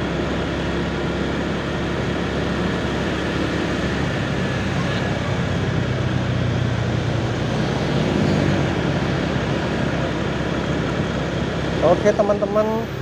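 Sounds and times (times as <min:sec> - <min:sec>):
city traffic: 0:00.0 - 0:13.0
motorcycle engine running: 0:00.0 - 0:13.0
wind and road noise: 0:00.0 - 0:13.0.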